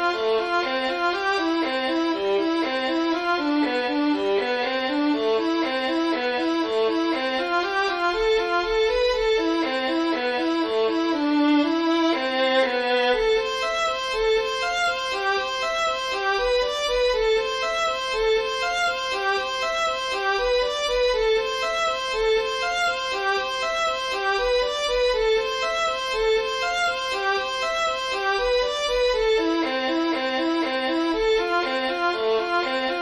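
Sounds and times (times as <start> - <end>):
violin-like arpeggios: 0.0 - 33.0.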